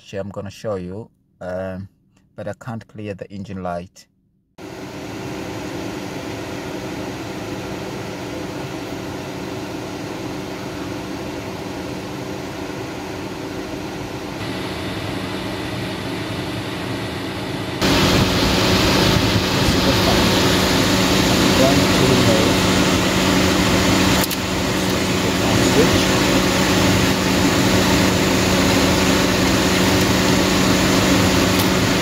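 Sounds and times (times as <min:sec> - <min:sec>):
radiator cooling fan running: 0:04.6 - 0:32.0.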